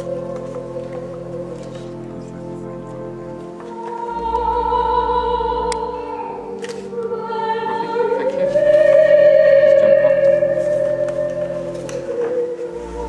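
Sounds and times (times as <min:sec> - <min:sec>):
operatic singing: 0:00.0 - 0:02.6, 0:03.2 - 0:13.0
steady accompaniment: 0:00.0 - 0:13.0.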